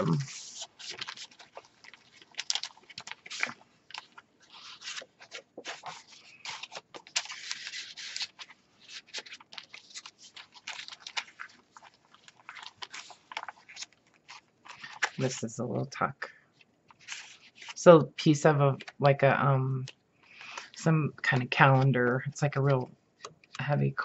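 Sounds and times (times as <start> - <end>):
paper pages rustling and crinkling: 0.0 - 15.9, 16.5 - 19.0, 19.8 - 24.0.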